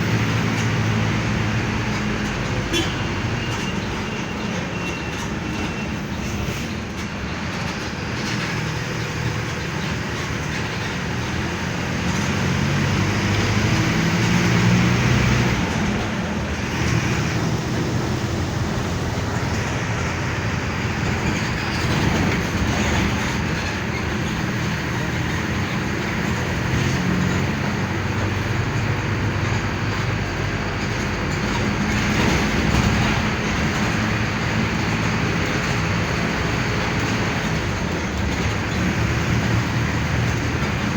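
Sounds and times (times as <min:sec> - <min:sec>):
bus diesel engine: 0:00.0 - 0:40.9
road and body rattle noise: 0:00.0 - 0:40.9.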